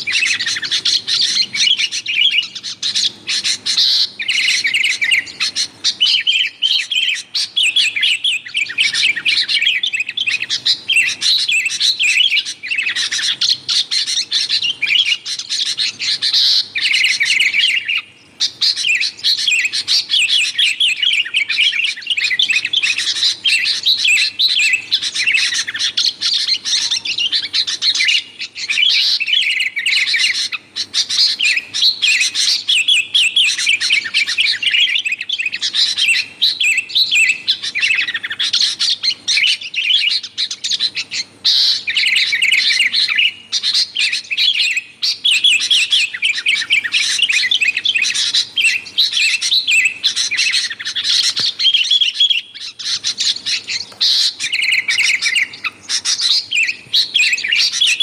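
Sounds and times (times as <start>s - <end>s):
birds chattering and chirping: 0.0s - 58.0s.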